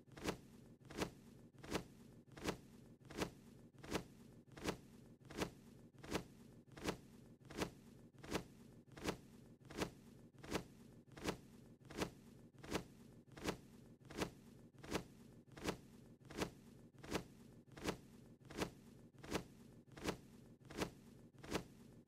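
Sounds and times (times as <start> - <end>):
cartoon wing-flap swish: 0.2 - 21.8.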